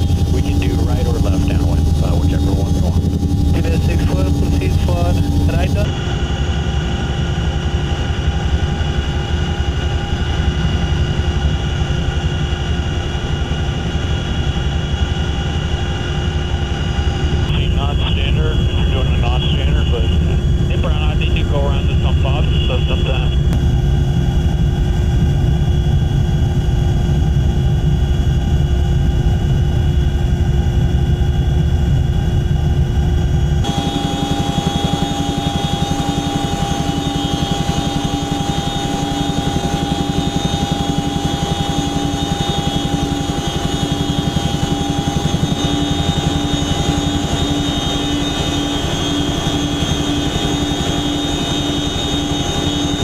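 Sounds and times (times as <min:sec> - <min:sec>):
helicopter rotor rumble: 0:00.0 - 0:53.0
turbine whine: 0:00.0 - 0:53.0.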